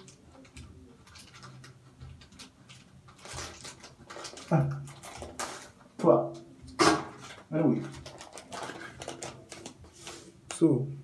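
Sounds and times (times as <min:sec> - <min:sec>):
plastic sachet rustling: 0:00.0 - 0:06.0, 0:06.8 - 0:10.5.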